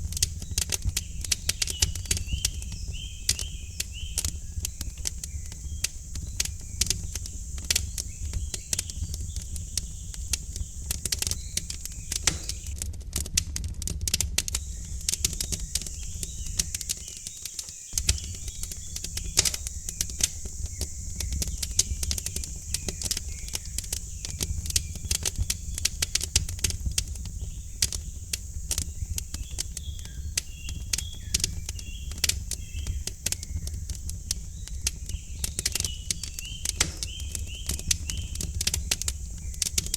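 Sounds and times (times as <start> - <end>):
faint birds chirping: 0.0 - 12.8, 14.6 - 39.9
wood fire crackling and popping: 0.0 - 39.9.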